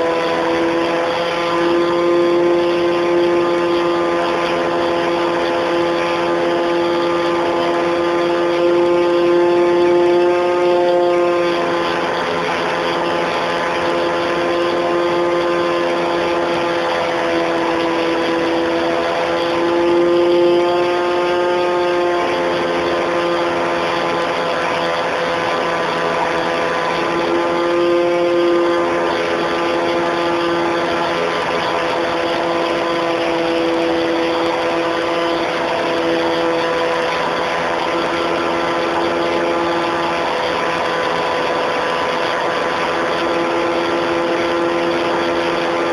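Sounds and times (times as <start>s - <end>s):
model plane motor whine: 0.0s - 45.9s.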